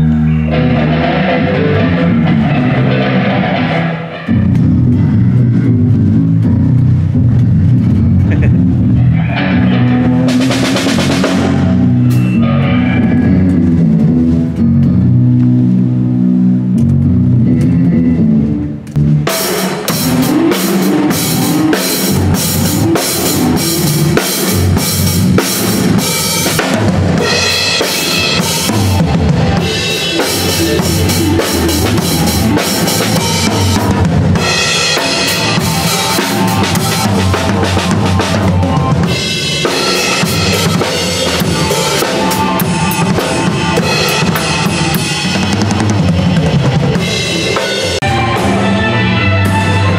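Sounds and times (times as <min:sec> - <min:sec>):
bass and guitar playing: 0:00.0 - 0:49.9
drum kit playing: 0:00.0 - 0:49.9.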